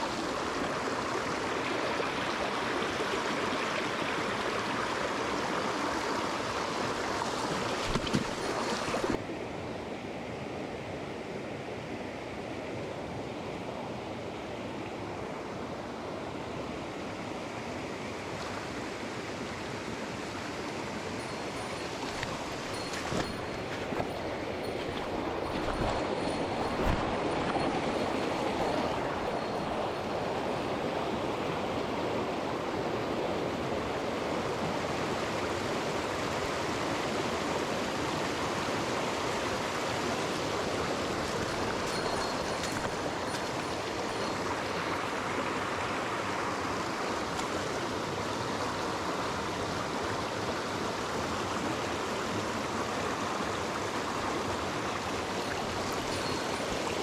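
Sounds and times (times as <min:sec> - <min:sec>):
stream rushing over rocks: 0:00.0 - 0:09.4, 0:13.4 - 0:57.0.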